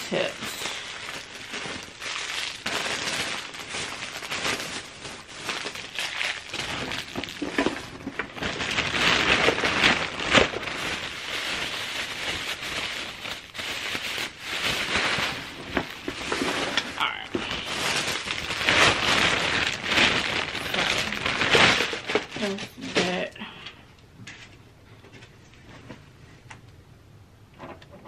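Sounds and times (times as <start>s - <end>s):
plastic bag rustling: 0.0s - 23.4s.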